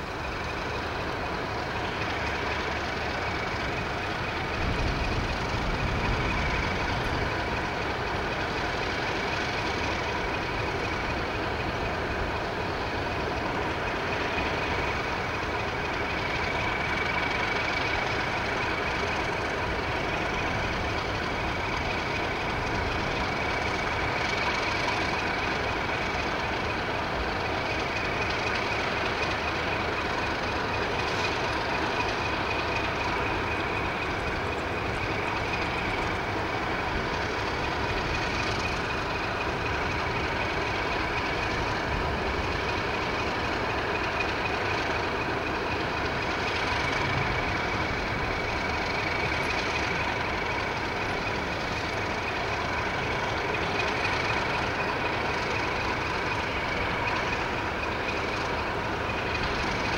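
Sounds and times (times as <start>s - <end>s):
constant high whine: 0.0s - 59.9s
diesel locomotive idling: 0.0s - 59.9s.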